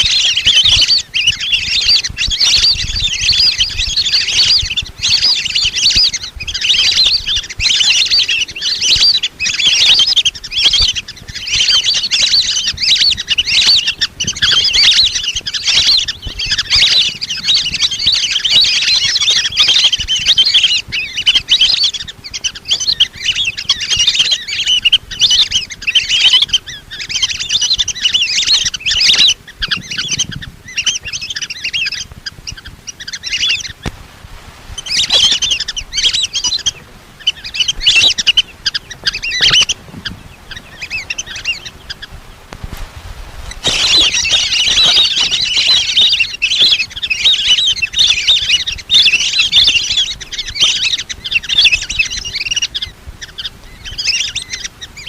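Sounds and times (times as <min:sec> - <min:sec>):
ducks whistling calls: 0:00.0 - 0:55.0.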